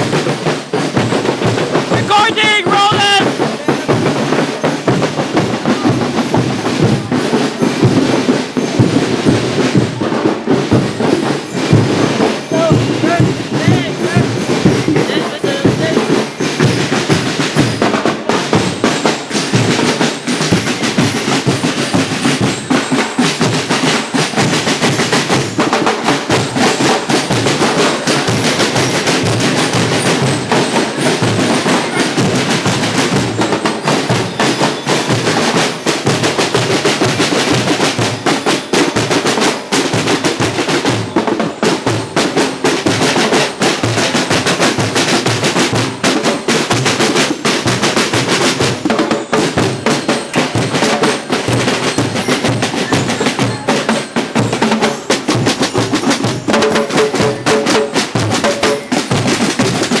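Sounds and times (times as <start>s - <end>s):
snare and bass drums playing: 0.0s - 60.0s.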